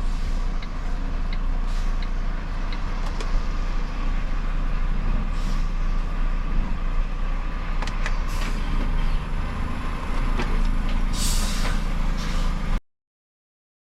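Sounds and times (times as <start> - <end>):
truck engine and road rumble: 0.0 - 12.8.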